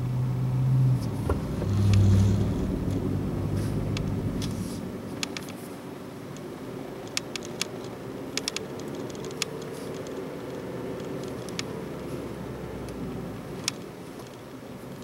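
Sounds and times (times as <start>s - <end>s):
road and engine noise in car: 0.0s - 15.0s.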